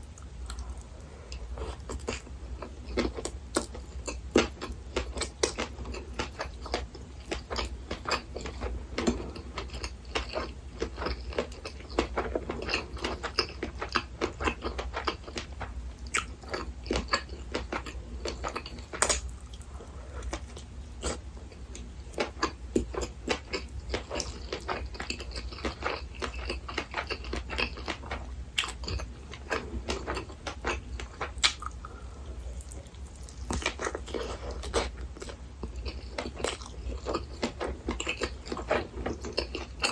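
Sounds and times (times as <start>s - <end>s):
chewing and biting food: 0.0s - 39.9s
steady low hum: 0.0s - 39.9s.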